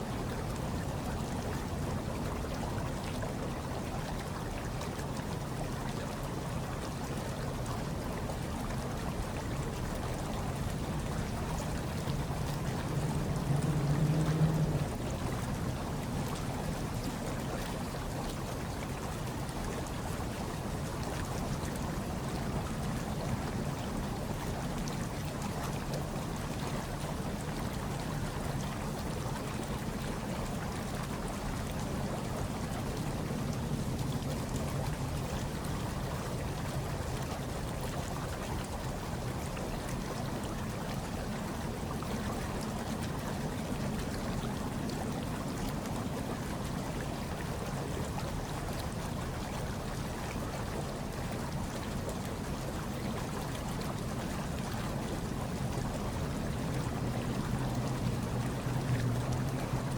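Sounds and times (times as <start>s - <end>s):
hot tub water churning and bubbling: 0.0s - 59.9s.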